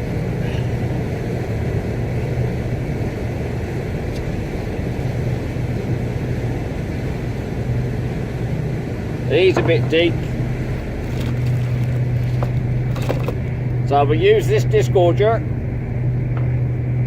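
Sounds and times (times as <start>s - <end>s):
ferry engine drone: 0.0s - 17.0s.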